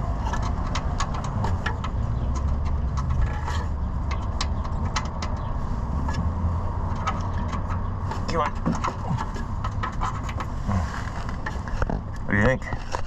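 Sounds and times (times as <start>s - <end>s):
low rumble: 0.0s - 12.2s.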